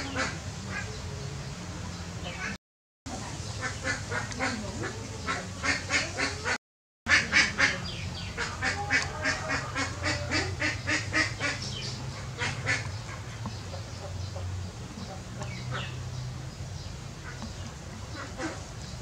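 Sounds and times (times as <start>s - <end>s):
birds calling: 0.0s - 2.6s, 3.4s - 19.0s.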